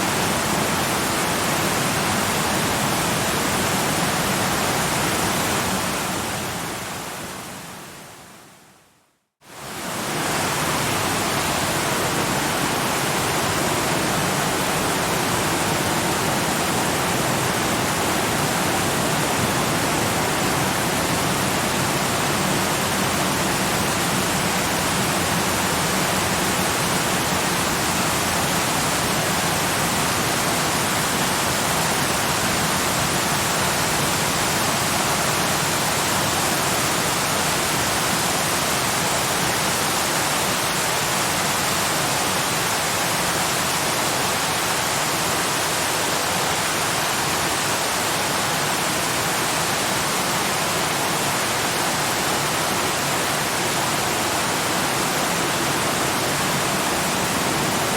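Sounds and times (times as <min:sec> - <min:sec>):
waterfall rushing: 0:09.5 - 0:57.9.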